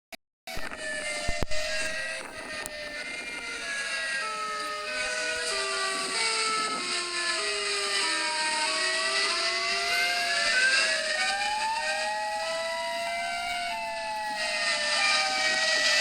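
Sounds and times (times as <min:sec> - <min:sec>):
emergency alert alarm tones: 0:00.5 - 0:16.0.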